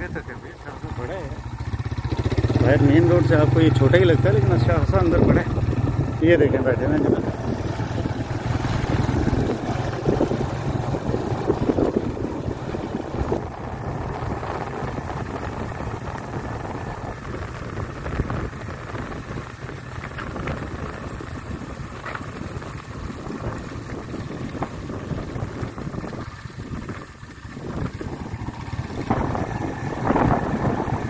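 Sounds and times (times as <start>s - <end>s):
wind rushing over microphone: 0.0s - 3.7s, 4.4s - 31.0s
motorbike engine rumble: 0.0s - 31.0s.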